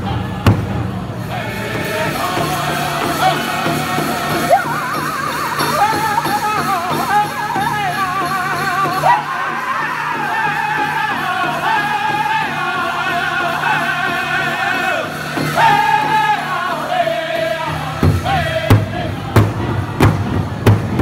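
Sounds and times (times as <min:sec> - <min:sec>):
big drum beating: 0:00.0 - 0:21.0
group singing in unison: 0:00.0 - 0:21.0.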